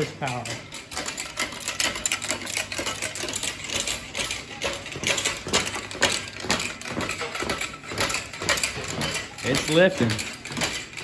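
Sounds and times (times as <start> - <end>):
ratchet clicking: 0.0 - 11.0.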